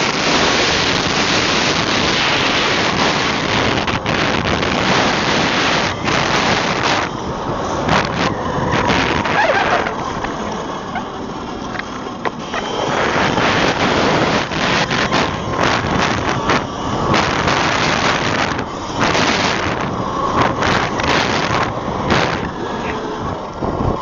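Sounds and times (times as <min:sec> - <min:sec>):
faint steady whine: 0:00.0 - 0:24.0
wind rushing over microphone: 0:00.0 - 0:24.0.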